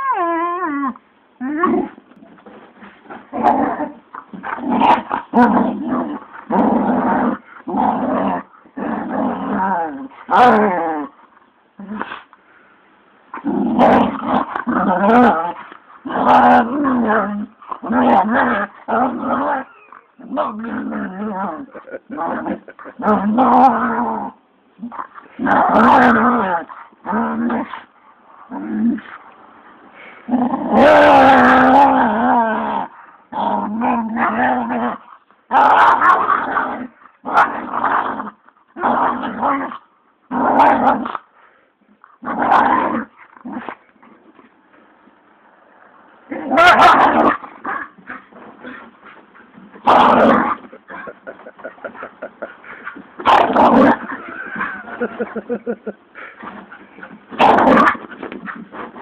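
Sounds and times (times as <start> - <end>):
dog play-growling: 0.1 - 12.3, 13.3 - 41.2, 45.4 - 59.0.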